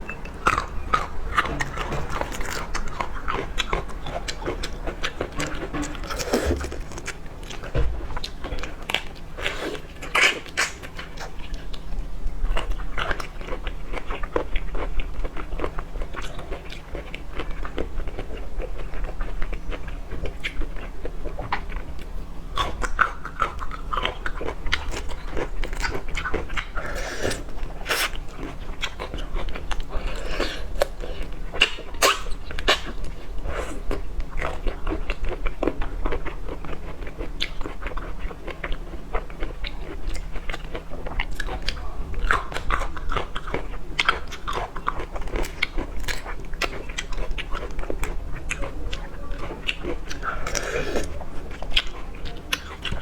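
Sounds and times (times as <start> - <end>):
person chewing prawns: 0.3 - 53.0.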